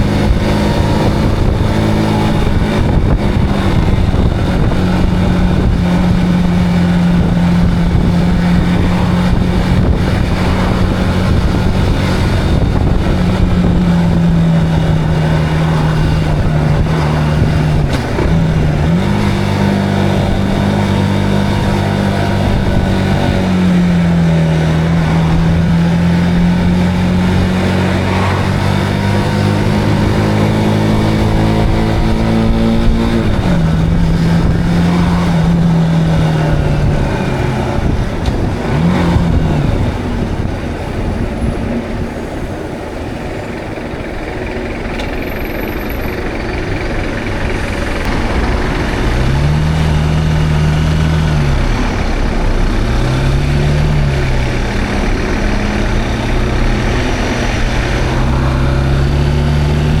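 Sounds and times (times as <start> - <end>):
motorcycle engine running: 0.0 - 60.0
wind and road noise: 0.0 - 60.0.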